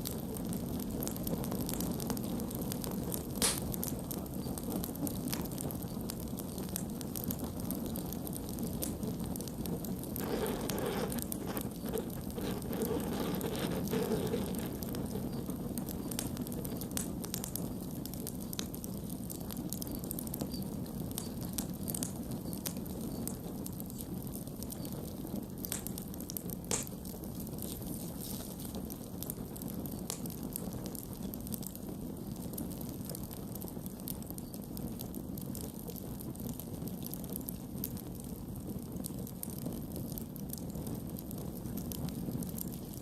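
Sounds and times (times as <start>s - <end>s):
burning wood crackling and popping: 0.0s - 43.0s
campfire flames rushing: 0.0s - 43.0s.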